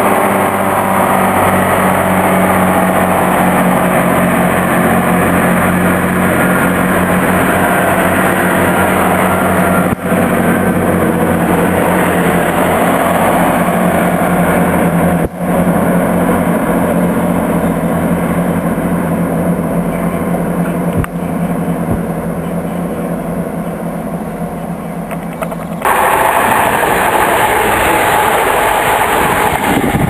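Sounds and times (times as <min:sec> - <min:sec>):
diesel train engine drone: 0:00.0 - 0:30.0
rail noise: 0:00.0 - 0:30.0.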